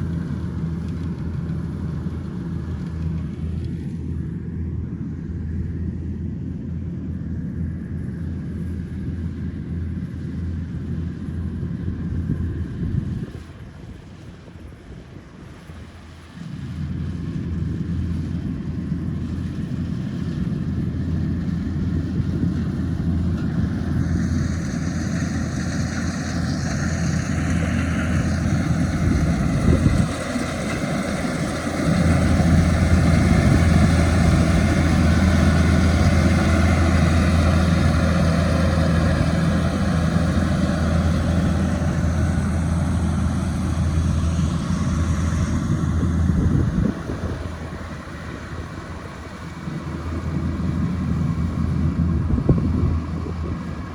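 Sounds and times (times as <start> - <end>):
combine harvester engine hum: 0.0 - 53.9.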